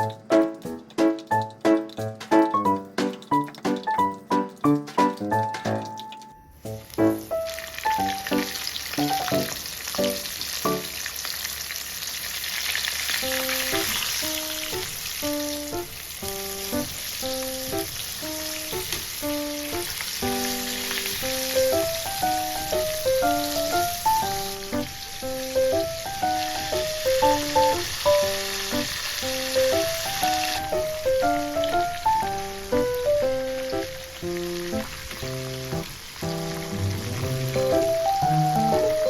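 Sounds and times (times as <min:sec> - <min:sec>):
light background music: 0:00.0 - 0:10.9, 0:13.2 - 0:39.0
food sizzling in a pan: 0:00.0 - 0:39.0.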